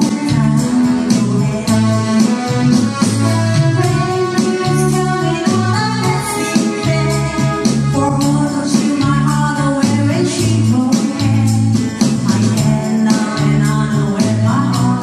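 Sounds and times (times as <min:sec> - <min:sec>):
keyboard accompaniment: 0:00.0 - 0:15.0
percussion beat: 0:00.0 - 0:15.0
woman singing pop song: 0:00.0 - 0:15.0.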